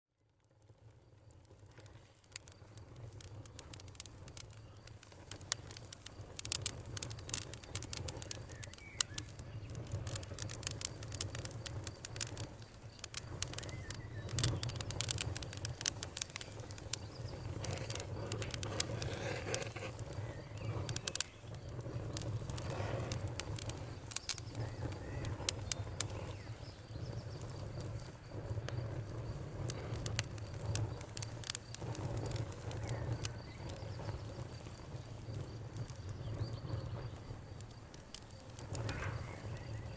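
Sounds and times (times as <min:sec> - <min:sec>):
campfire crackling and popping: 0:00.1 - 0:39.9
low rumble of flames: 0:00.1 - 0:39.9
faint bird chirps: 0:07.0 - 0:39.9.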